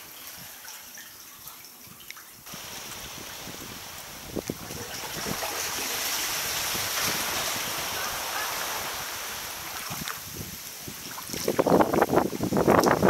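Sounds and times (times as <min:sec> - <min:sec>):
sea water around kayak hull: 0:00.0 - 0:13.0
wind hiss: 0:02.4 - 0:13.0.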